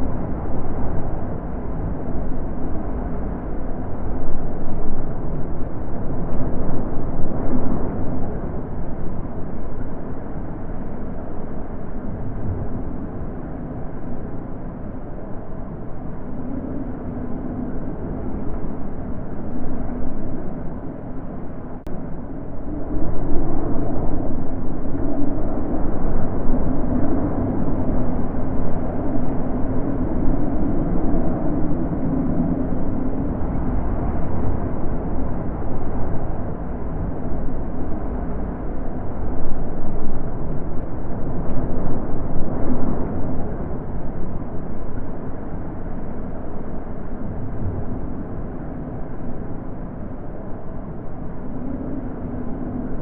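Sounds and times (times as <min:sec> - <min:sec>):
wind blowing in gusts: 0:00.0 - 0:53.0.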